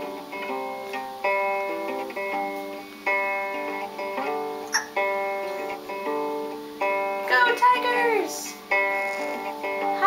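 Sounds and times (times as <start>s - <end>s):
guitar strumming chords: 0.0s - 10.0s.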